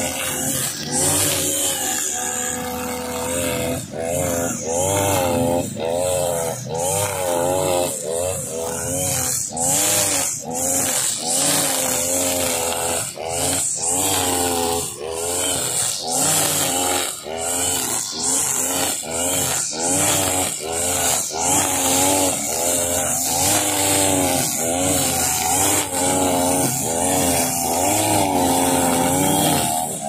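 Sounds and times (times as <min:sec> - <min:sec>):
brush cutter engine revving: 0:00.0 - 0:30.0
trimmer line cutting grass: 0:00.0 - 0:30.0.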